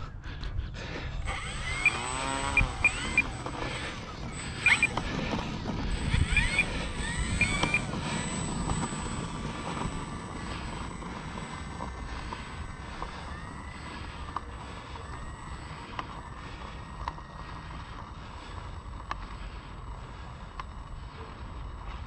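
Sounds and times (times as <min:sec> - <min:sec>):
model plane electric motor whine: 0:00.8 - 0:22.0.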